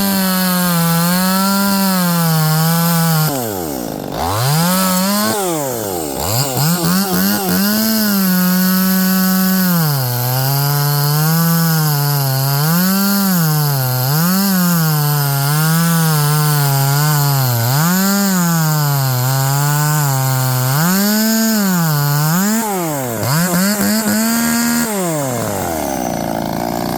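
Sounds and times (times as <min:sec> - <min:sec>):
chainsaw engine revving: 0:00.0 - 0:26.9.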